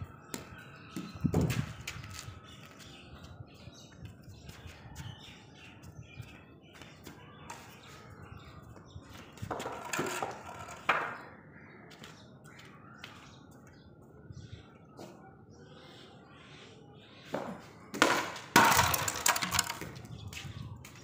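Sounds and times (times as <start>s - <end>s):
birds chirping faintly: 0.0s - 21.0s
open-air background noise: 0.0s - 21.0s.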